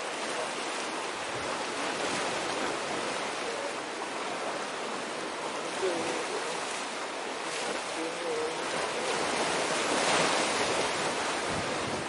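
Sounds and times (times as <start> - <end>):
sea waves rushing: 0.0 - 12.0.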